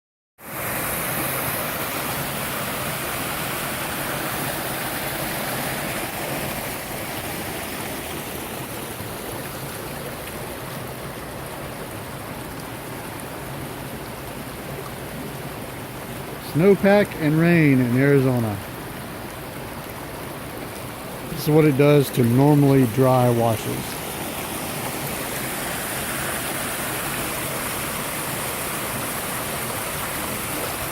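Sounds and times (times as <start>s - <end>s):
waterfall rushing: 0.4s - 30.9s.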